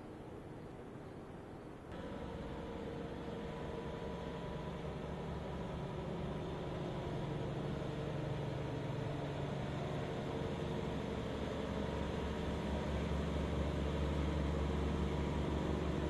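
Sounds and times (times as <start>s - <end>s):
diesel truck engine running: 1.9s - 16.0s.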